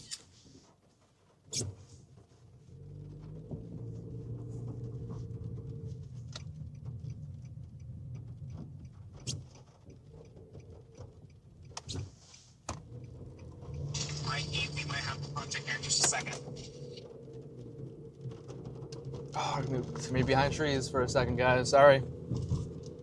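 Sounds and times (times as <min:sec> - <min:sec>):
vehicle engine and road hum: 0:00.0 - 0:23.0.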